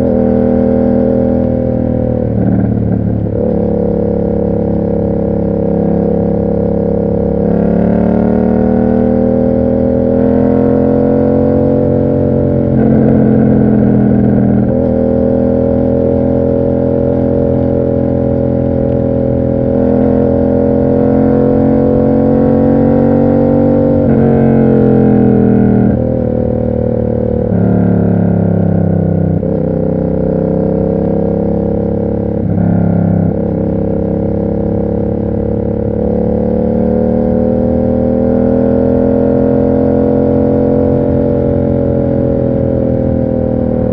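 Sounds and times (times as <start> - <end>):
motorcycle engine while riding: 0.0 - 43.9.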